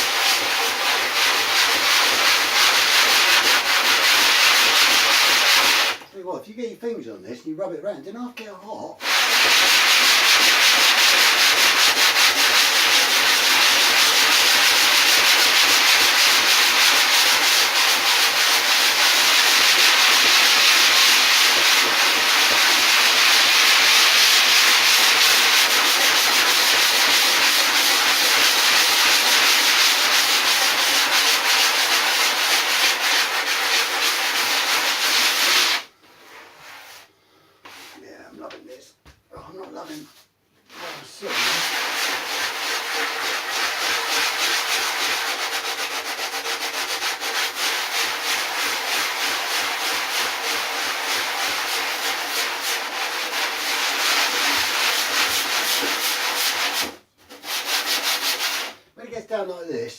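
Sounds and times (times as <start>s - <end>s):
sanding foam scratchy rasp: 0.0s - 6.0s, 9.0s - 37.0s, 40.7s - 58.8s.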